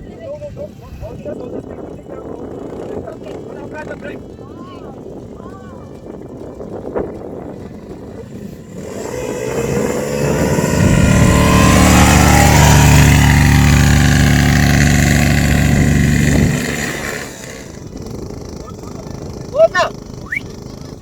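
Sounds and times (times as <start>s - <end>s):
quad bike engine: 0.0s - 21.0s.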